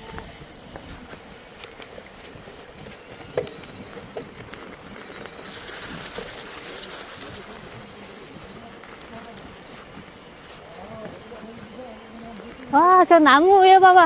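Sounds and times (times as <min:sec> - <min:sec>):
bicycle tyres on snow: 0:00.0 - 0:14.0.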